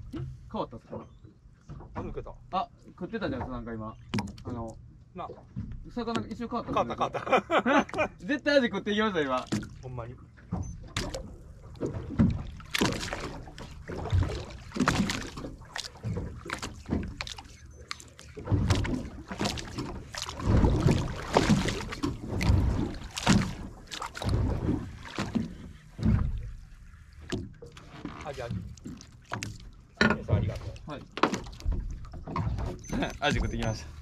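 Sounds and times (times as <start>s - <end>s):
water slapping against boat hull: 0.0s - 34.0s.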